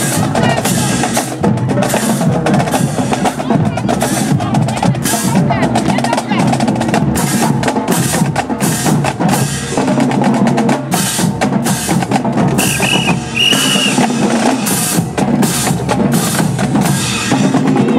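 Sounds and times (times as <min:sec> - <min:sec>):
marching drums playing: 0:00.0 - 0:17.9.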